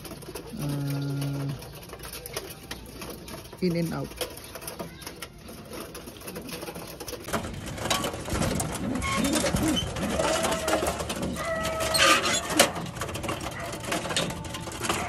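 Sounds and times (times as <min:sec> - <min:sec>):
clicking and rattling: 0:00.0 - 0:15.0
pigeons cooing: 0:00.0 - 0:15.0.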